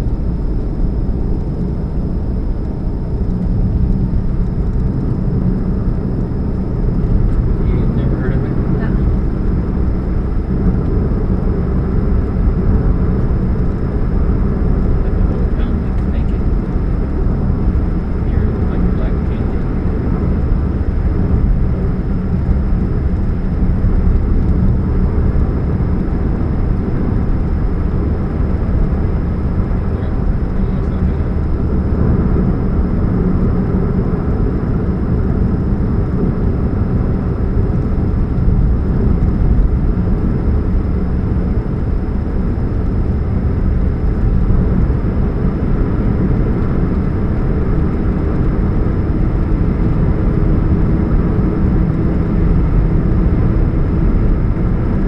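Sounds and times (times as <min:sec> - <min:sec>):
car engine humming and rumbling: 0:00.0 - 0:55.0.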